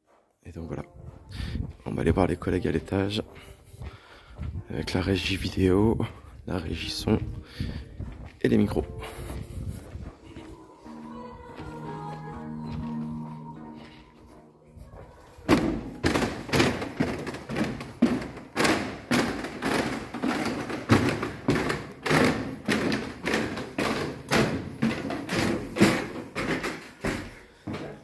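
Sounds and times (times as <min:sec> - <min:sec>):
footsteps on floor and stairs: 0:00.0 - 0:28.0.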